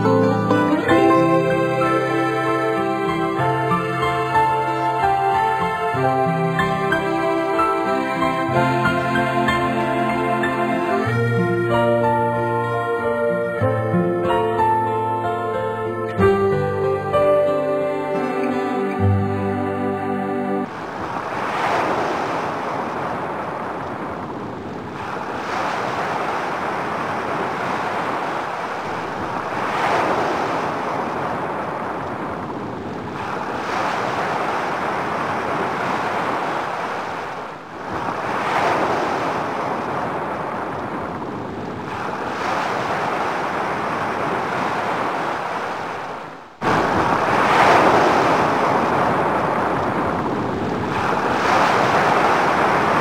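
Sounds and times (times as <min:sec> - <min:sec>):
sea waves breaking on beach: 0:00.0 - 0:13.2, 0:20.6 - 0:53.0.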